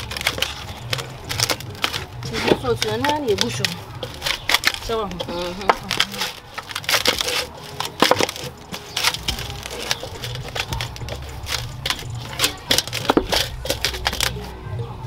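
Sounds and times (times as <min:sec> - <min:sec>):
hands kneading dough in metal bowl: 0:00.0 - 0:14.6.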